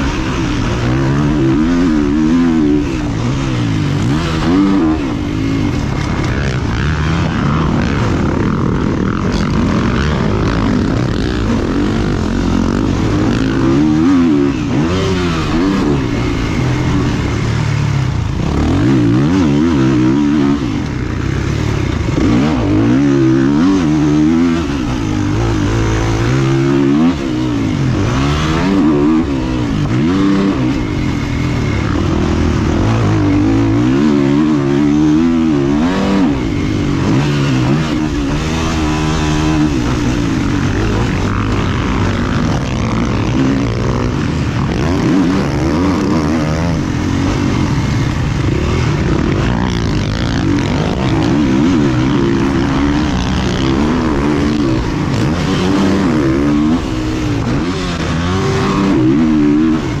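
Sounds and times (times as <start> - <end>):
motocross bike engines revving: 0.0 - 60.0.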